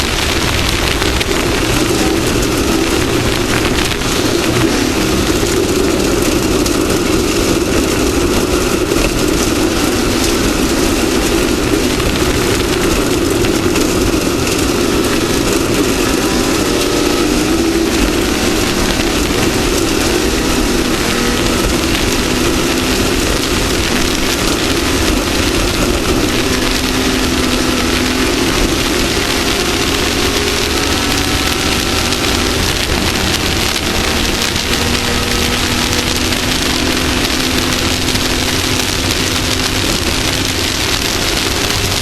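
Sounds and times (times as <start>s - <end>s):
loud rushing noise: 0.0s - 42.0s
race vehicle engine running: 0.0s - 42.0s.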